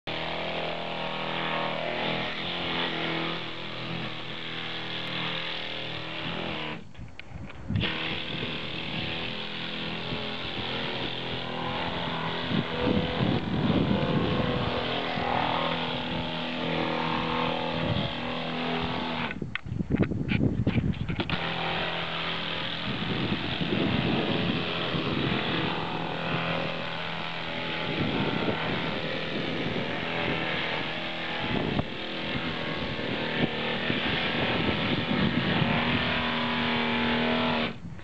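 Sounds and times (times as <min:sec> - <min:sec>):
air sander hissing: 0:00.1 - 0:19.5, 0:21.3 - 0:38.0.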